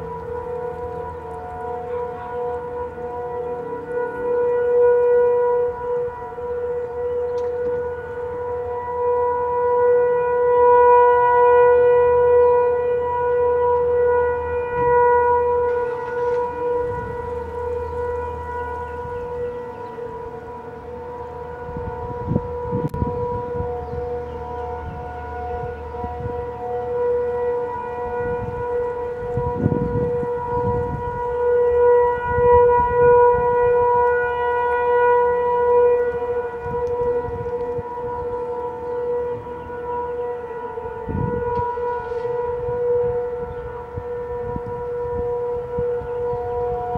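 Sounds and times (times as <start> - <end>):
civil defense siren steady tone: 0.0 - 46.9.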